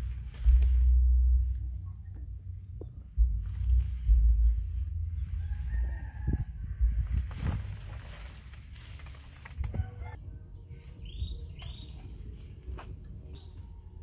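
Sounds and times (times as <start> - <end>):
rustling leaves and branches: 0.0 - 2.1, 3.2 - 14.0
low wind rumble: 0.0 - 14.0.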